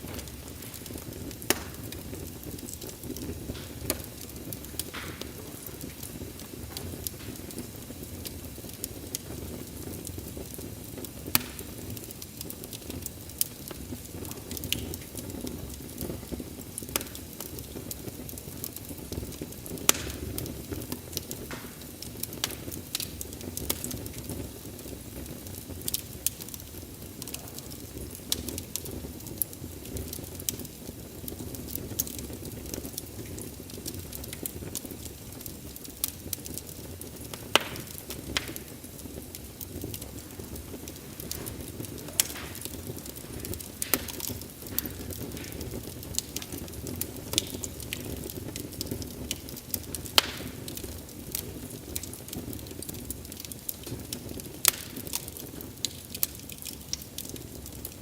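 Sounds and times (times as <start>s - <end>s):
sharp pops from fire: 0.0s - 58.0s
wood fire crackling: 0.0s - 58.0s.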